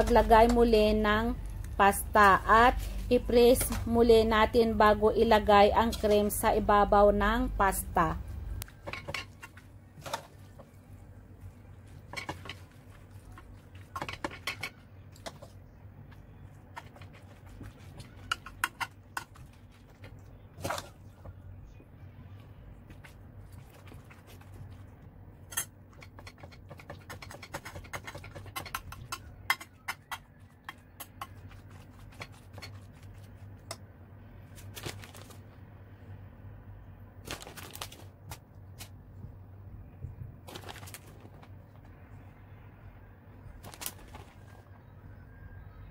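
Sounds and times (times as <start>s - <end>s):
steady low hum: 0.0s - 29.6s, 30.6s - 45.9s.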